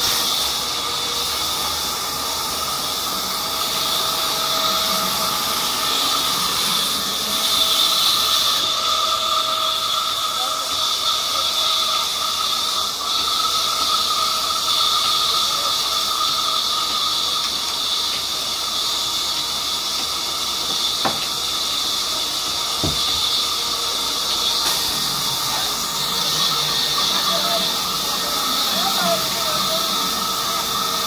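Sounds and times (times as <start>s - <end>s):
band saw whining: 0.0s - 31.0s.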